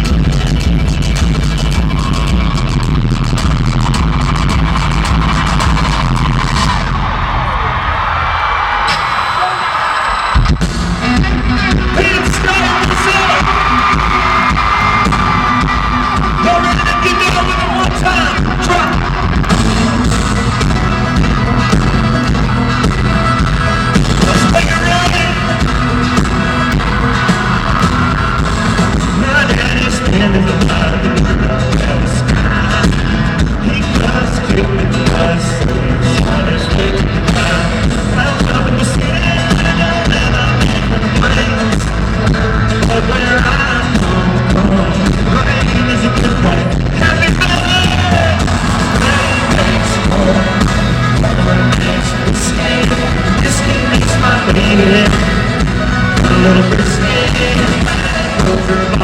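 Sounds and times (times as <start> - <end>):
live country band playing: 0.0 - 59.0
lead vocal singing: 11.6 - 59.0.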